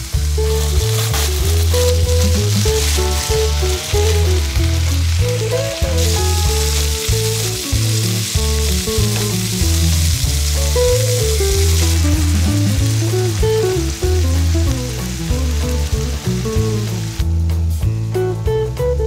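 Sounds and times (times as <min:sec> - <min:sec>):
food sizzling while stir-fried: 0:00.0 - 0:17.4
background music with bass line: 0:00.0 - 0:19.0.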